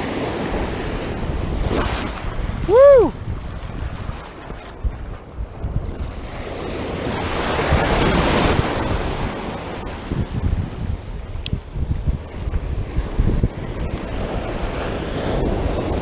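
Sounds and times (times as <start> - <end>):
wave breaking and washing up: 0.0 - 16.0
wind buffeting microphone: 0.0 - 16.0.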